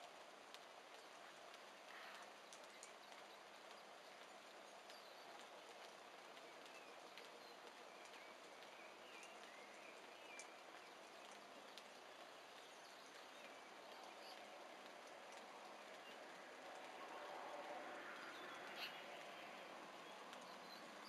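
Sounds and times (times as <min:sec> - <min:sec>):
outdoor hiss: 0:00.0 - 0:21.0.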